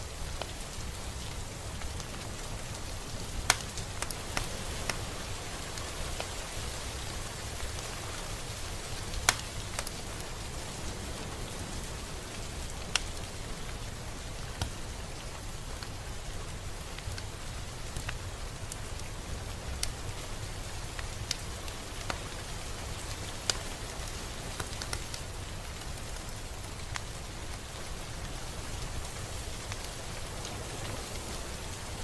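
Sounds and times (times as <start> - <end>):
steady rain hiss: 0.0 - 32.0
loud raindrops striking nearby: 0.1 - 32.0.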